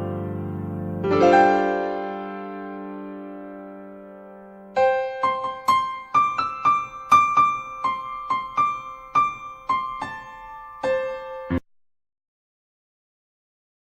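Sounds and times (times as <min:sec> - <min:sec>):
slow keyboard melody: 0:00.0 - 0:11.6.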